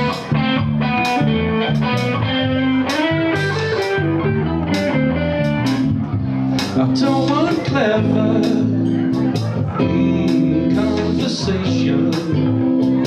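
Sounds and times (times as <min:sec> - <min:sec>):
bass guitar notes: 0:00.0 - 0:13.0
electric guitar melody: 0:00.0 - 0:13.0.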